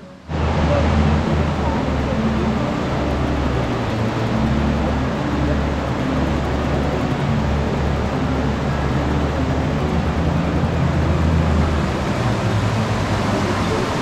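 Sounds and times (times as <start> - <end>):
constant rushing noise: 0.0 - 14.0
low engine drone: 0.0 - 14.0.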